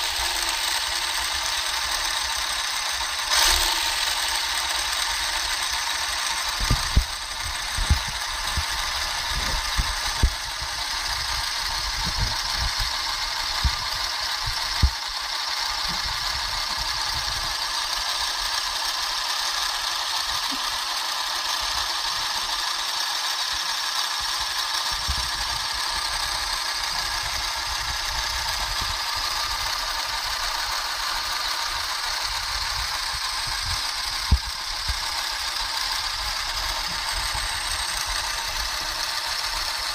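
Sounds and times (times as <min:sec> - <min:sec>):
model engine mechanical whir: 0:00.0 - 0:39.9.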